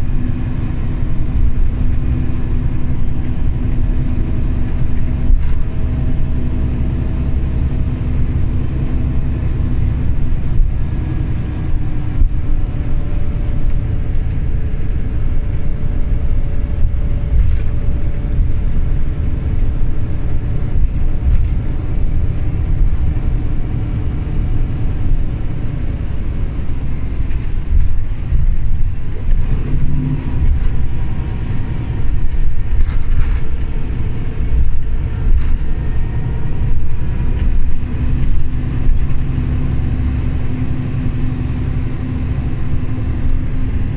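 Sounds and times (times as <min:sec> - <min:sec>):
bus engine and road rumble: 0:00.0 - 0:43.9
light rattles clicking: 0:00.1 - 0:43.9.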